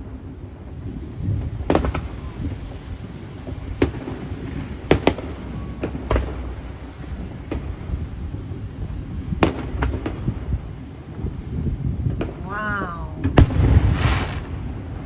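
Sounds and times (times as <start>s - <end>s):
fireworks bangs: 0.8s - 15.0s.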